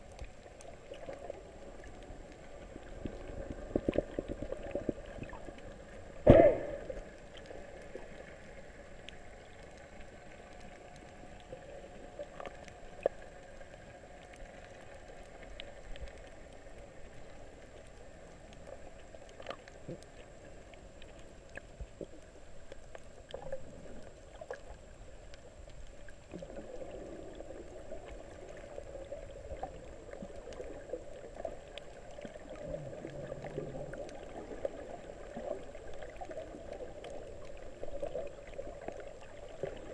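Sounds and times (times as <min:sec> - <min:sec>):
muffled underwater water wash: 0:00.0 - 0:39.9.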